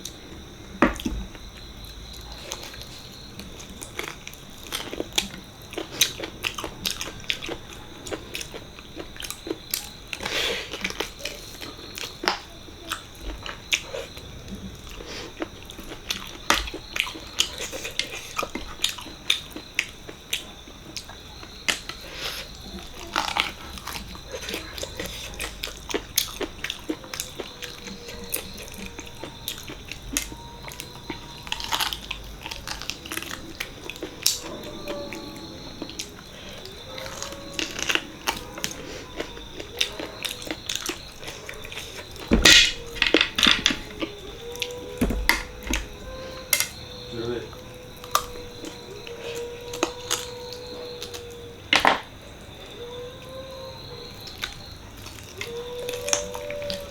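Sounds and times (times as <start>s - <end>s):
person chewing food: 0.0s - 46.9s, 47.5s - 52.2s, 54.2s - 56.9s.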